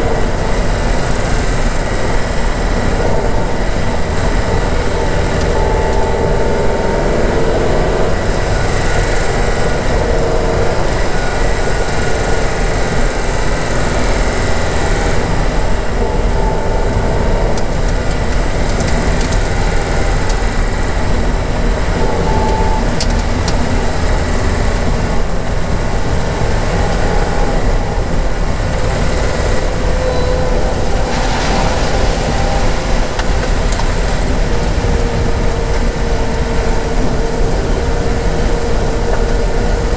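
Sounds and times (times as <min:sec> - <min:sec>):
vehicle rumble from inside cabin: 0:00.0 - 0:39.9.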